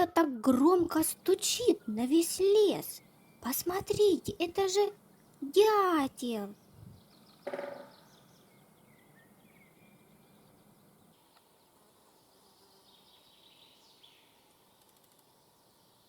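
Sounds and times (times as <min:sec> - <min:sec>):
faint bird chirps: 0:00.9 - 0:16.0.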